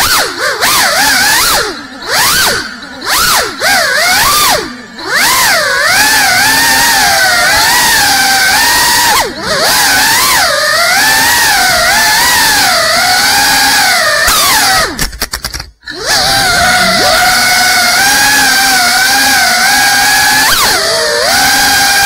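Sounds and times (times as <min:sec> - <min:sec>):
quadcopter motors whining: 0:00.0 - 0:15.0, 0:15.8 - 0:22.0.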